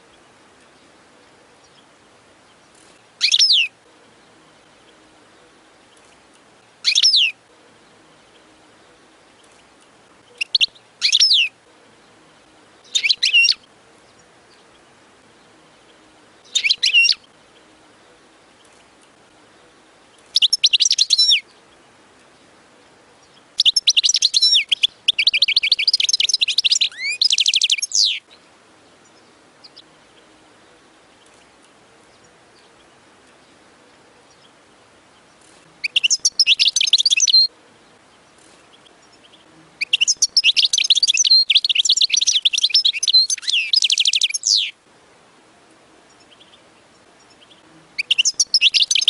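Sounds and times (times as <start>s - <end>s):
finch twittering song: 0.0s - 44.8s, 46.1s - 49.0s.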